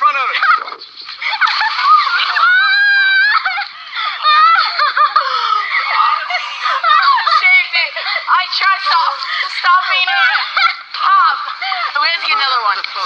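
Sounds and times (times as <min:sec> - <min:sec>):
girls screaming and laughing: 0:00.0 - 0:13.0.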